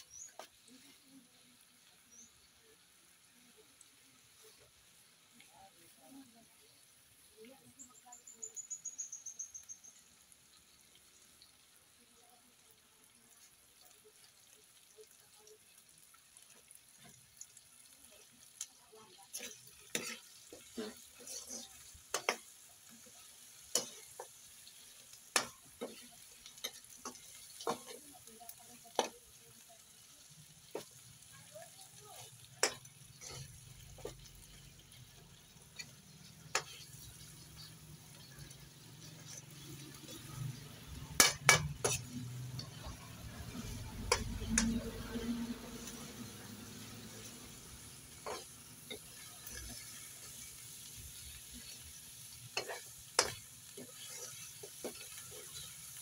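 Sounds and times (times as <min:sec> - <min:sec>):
frying sizzle: 0:00.0 - 0:56.0.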